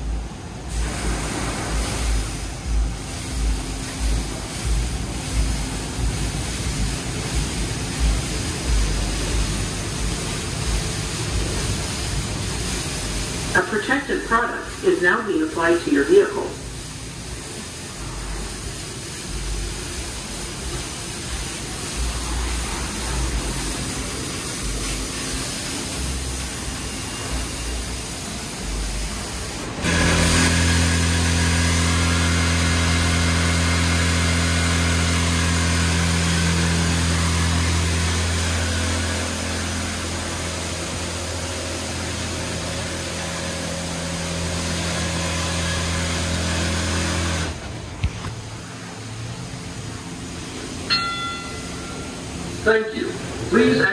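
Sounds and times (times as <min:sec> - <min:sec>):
car wash spray hissing: 0:00.0 - 0:53.9
high-pressure pump hum: 0:00.0 - 0:53.9.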